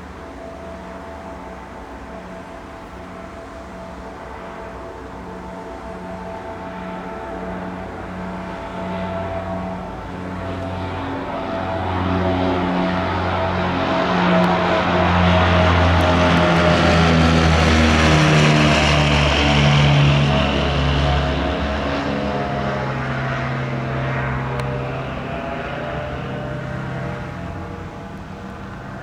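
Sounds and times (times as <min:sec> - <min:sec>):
light aircraft propellers droning: 0:00.0 - 0:29.0.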